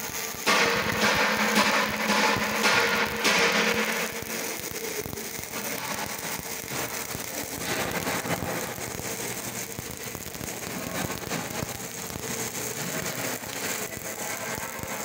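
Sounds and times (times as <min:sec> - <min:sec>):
welding arc crackling and sizzling: 0:00.0 - 0:15.0.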